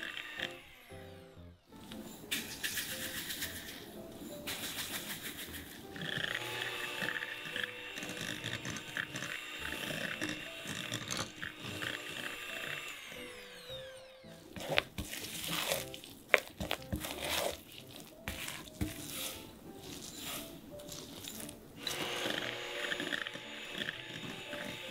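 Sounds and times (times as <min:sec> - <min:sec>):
electric hand mixer running: 0:00.0 - 0:02.2, 0:04.7 - 0:24.9
light background music: 0:00.0 - 0:24.9.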